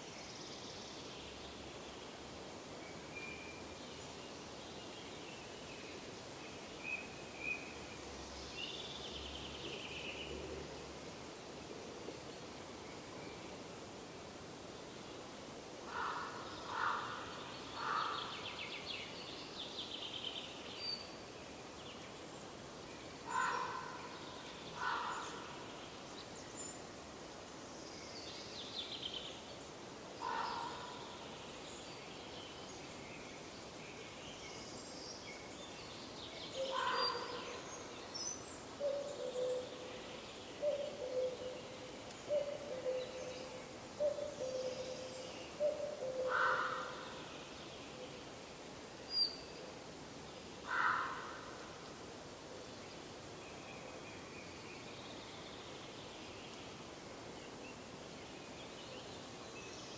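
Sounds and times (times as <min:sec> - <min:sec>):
forest birds calling and singing: 0:00.0 - 0:11.0, 0:14.6 - 0:59.9
background hiss: 0:00.0 - 0:59.9.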